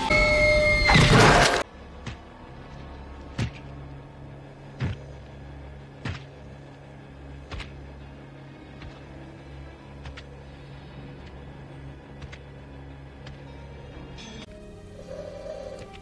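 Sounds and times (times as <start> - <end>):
low engine drone: 1.4 - 16.0.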